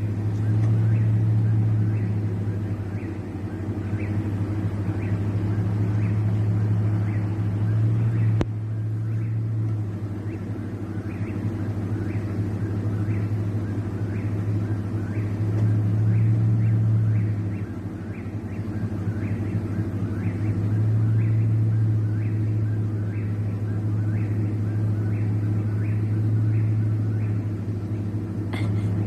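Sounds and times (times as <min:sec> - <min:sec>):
loud steady low hum: 0:00.0 - 0:29.0.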